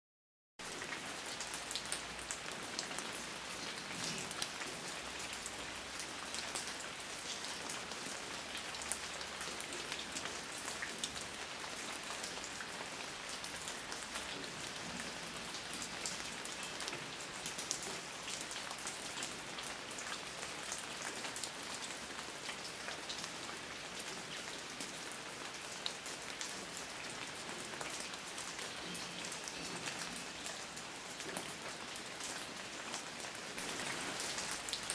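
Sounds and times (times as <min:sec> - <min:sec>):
rain falling on a surface: 0:00.6 - 0:34.9.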